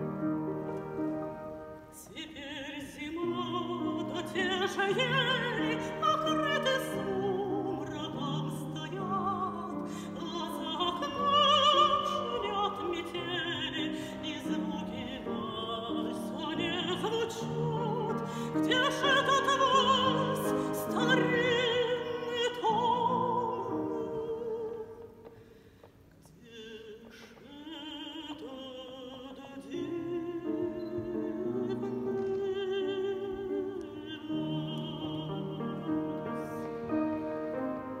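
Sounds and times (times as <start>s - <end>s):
soprano woman singing: 0.0s - 25.3s, 26.2s - 38.0s.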